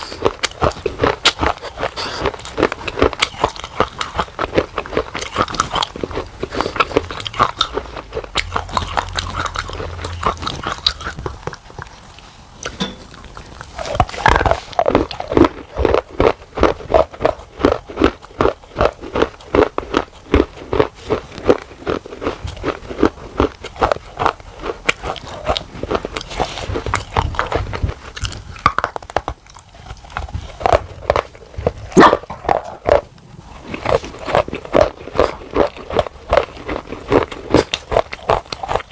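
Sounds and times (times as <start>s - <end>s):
clay being chewed crunching: 0.0s - 38.9s.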